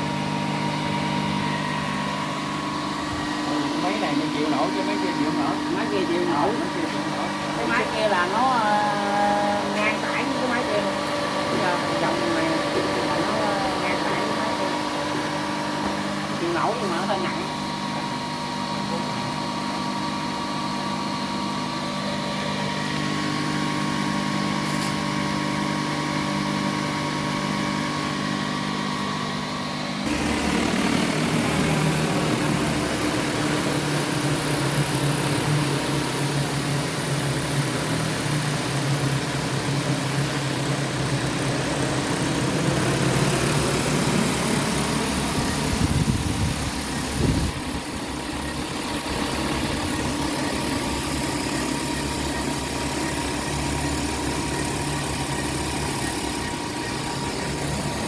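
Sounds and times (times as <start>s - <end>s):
rising whine: 0.0s - 37.5s, 38.7s - 58.0s
electrical machine hum: 0.0s - 58.0s.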